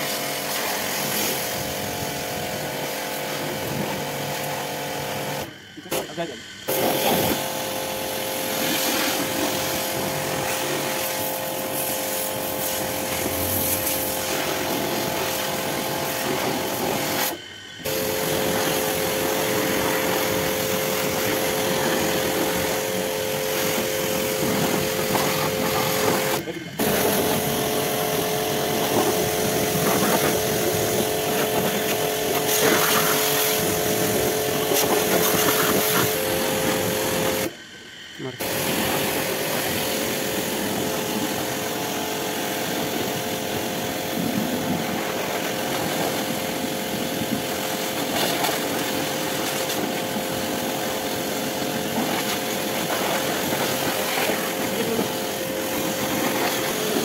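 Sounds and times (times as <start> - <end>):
water jet hissing on car: 0.0 - 37.5, 38.3 - 57.0
pressure washer motor whine: 0.0 - 57.0.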